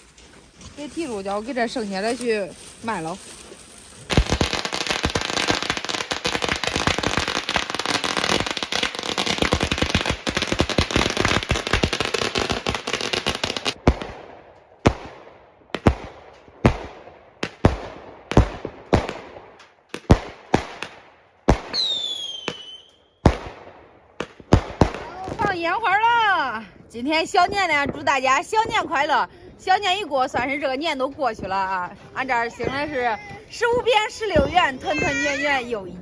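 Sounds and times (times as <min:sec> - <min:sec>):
firecrackers crackling and banging: 0:00.0 - 0:26.4, 0:27.0 - 0:35.6.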